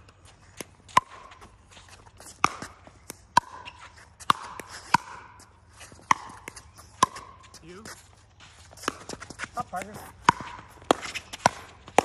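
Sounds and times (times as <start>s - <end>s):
paddles striking pickleball: 0.6s - 1.5s, 2.2s - 8.0s, 8.7s - 12.0s.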